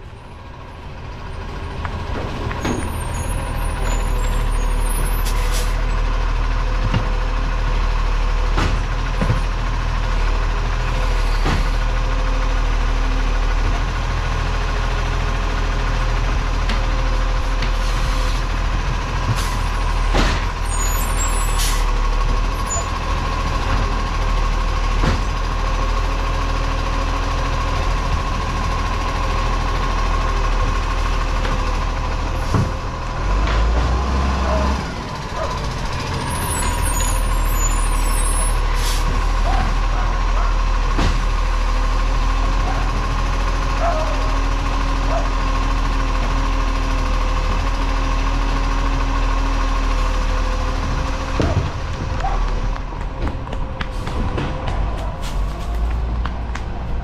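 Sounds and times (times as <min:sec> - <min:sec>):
garbage truck engine rumble: 0:00.0 - 0:57.0.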